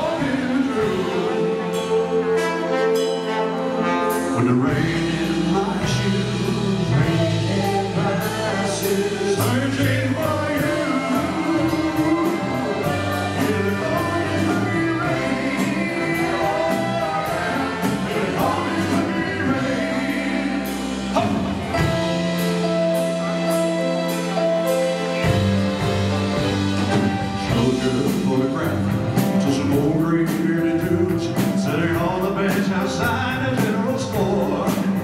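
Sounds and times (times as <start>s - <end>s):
live band playing country-pop ballad: 0.0s - 35.0s
person singing: 0.0s - 35.0s.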